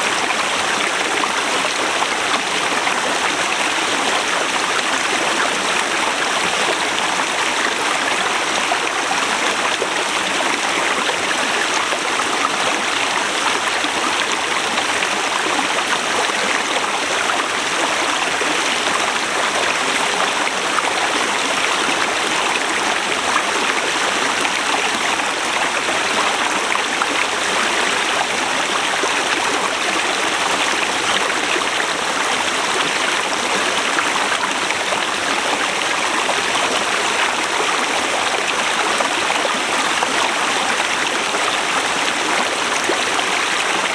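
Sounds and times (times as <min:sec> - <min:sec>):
river flowing over rocks: 0:00.0 - 0:43.9.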